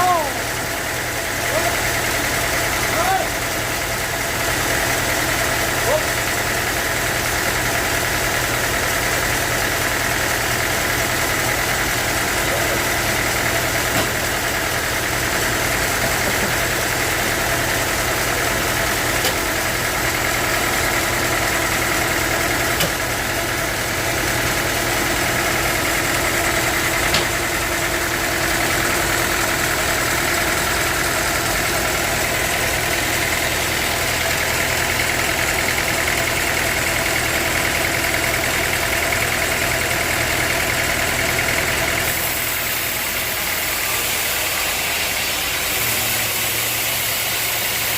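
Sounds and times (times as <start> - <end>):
sawmill machinery droning: 0.0 - 47.9.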